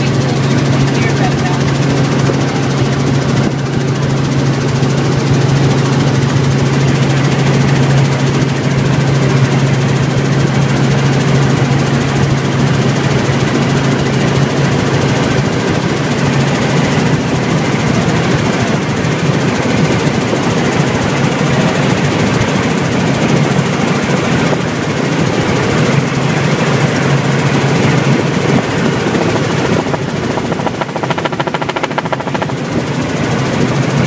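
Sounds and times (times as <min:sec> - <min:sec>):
helicopter engine and rotor drone: 0:00.0 - 0:34.0.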